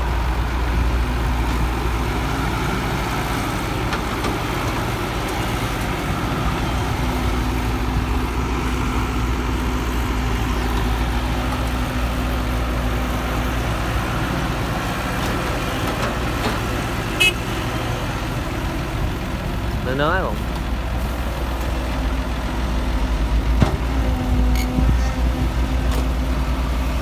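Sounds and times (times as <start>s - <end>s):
diesel machinery rumbling: 0.0s - 27.0s.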